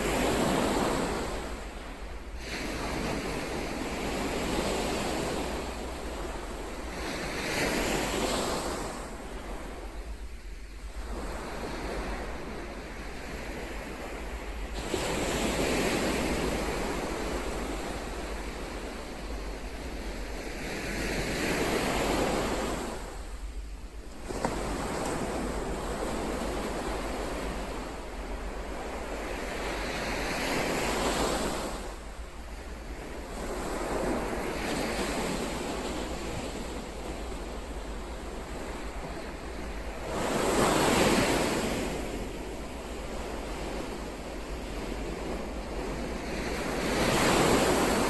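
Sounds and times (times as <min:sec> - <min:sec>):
ocean waves breaking: 0:00.0 - 0:48.0.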